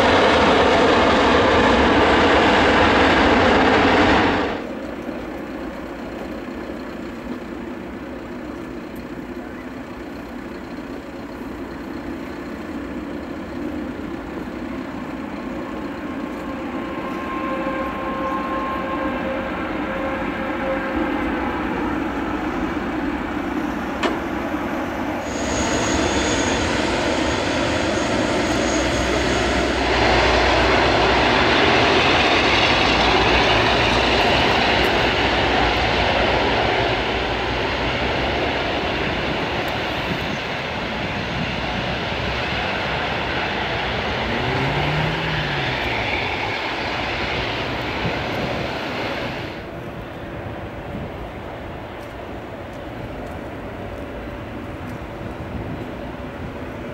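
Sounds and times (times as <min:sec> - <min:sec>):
jet airliner passing: 0:00.0 - 0:56.9.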